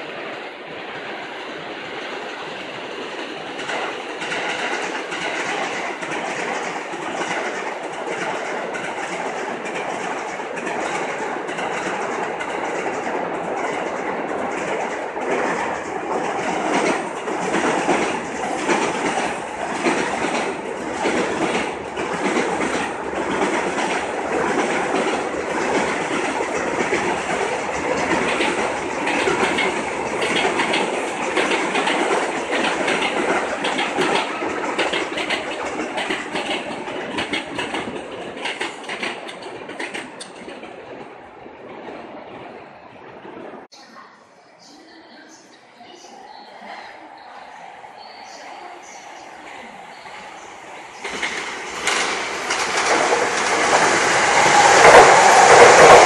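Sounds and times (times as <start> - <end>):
train wheels clacking on rails: 0.0 - 42.6, 47.6 - 56.0.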